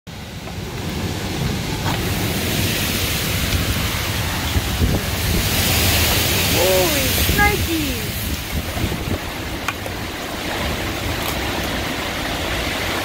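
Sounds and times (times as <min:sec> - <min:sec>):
heavy rain: 0:00.1 - 0:13.0
strong wind blowing: 0:00.2 - 0:13.0
wind buffeting microphone: 0:00.2 - 0:13.0.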